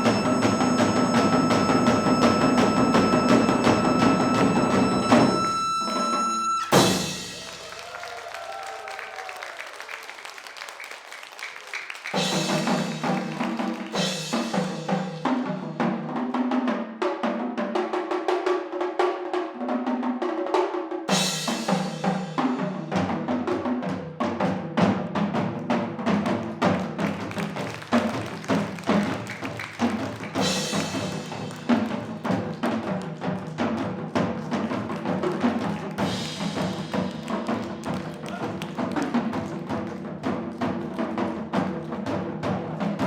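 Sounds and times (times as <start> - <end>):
drums and percussion: 0.0 - 43.0.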